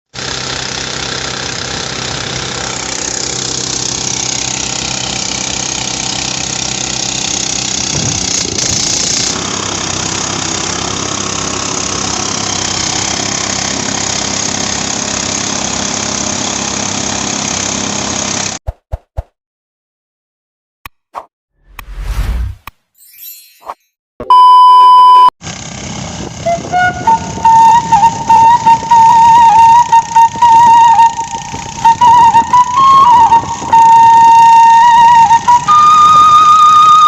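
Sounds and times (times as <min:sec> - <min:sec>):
threshing machine engine drone: 0:00.2 - 0:18.6, 0:25.4 - 0:36.8.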